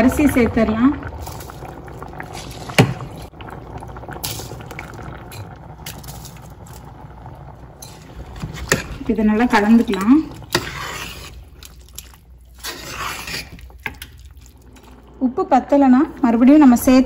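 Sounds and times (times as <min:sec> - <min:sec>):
stock bubbling in a pot: 0:00.0 - 0:17.0.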